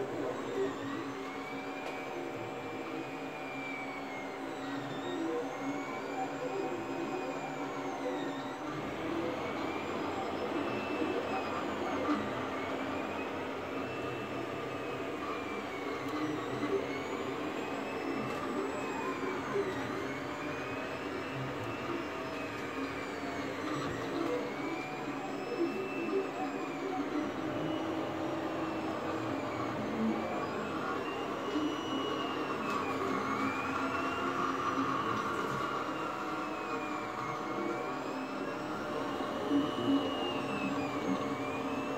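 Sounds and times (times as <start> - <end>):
cooling fan whirring: 0.0 - 41.9
stepper motors whining: 0.0 - 41.9.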